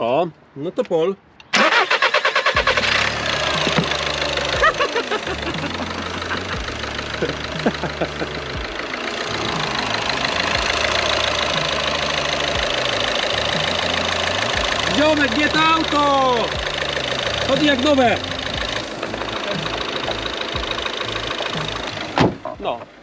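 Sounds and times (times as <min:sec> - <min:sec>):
diesel engine idling: 0:01.6 - 0:23.0.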